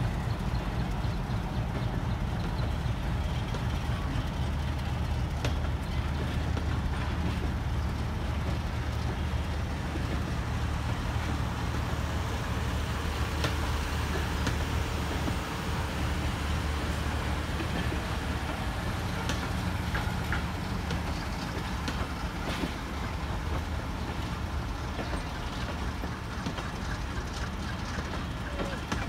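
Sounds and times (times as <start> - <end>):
diesel locomotive engine drone: 0.0 - 29.0
train coaches rolling on rails: 0.0 - 29.0.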